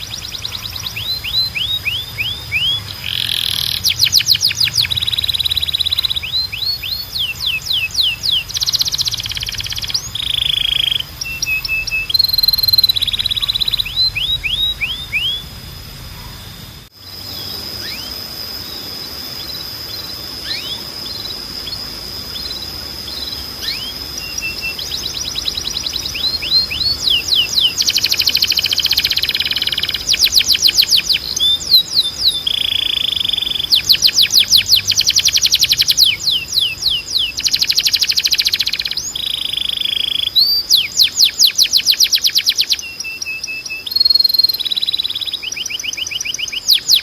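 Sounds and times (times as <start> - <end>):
steady high tone: 0.0 - 40.9
canary singing: 0.0 - 47.0.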